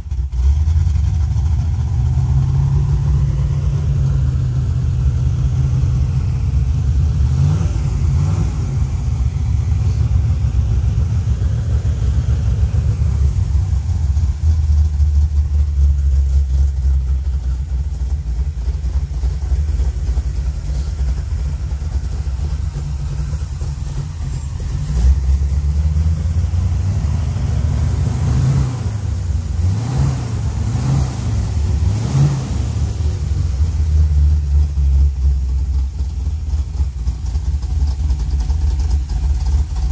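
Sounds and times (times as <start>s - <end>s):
pickup truck engine idling and revving: 0.0s - 39.9s.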